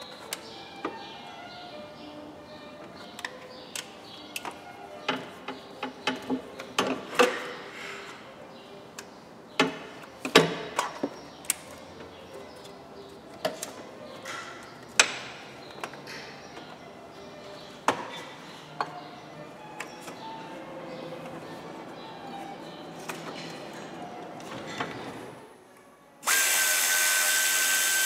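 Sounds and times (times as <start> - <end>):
faint music: 0.0 - 28.0.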